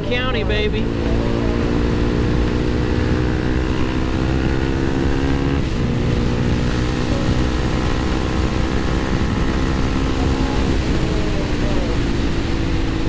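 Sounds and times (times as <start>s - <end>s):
motorcycle engine cruising: 0.0s - 13.0s
wind rumbling on microphone: 0.0s - 13.0s.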